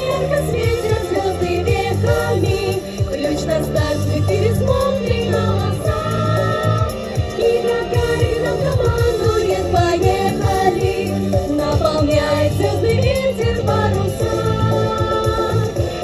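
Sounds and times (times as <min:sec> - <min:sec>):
children's choir singing pop song: 0:00.0 - 0:16.0
steady bass beat: 0:00.0 - 0:16.0.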